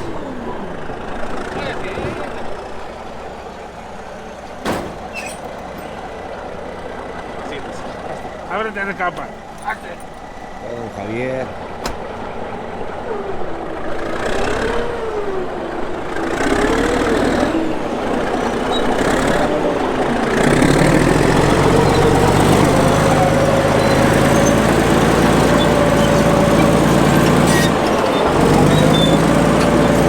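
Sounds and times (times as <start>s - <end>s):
bulldozer diesel engine working: 0.0s - 30.0s.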